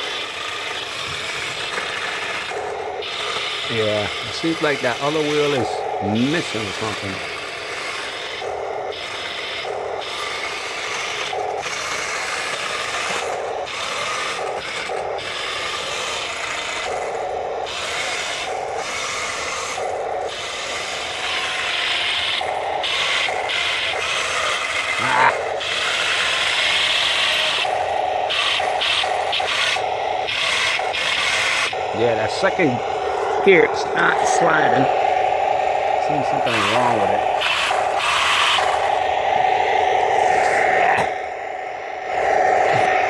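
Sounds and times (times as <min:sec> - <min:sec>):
toy tank motors grinding whir: 0:00.0 - 0:43.0.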